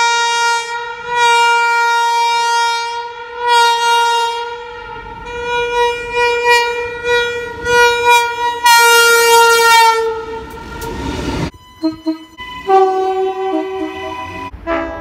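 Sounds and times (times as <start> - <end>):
locomotive horn blasts: 0.0 - 15.0
lower-pitched train horn: 0.0 - 15.0
train rumble and wheel noise: 0.0 - 15.0.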